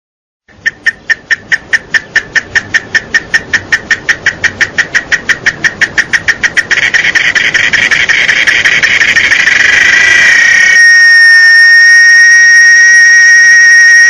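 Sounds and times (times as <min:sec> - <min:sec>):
cicada buzzing: 0:00.6 - 0:14.0.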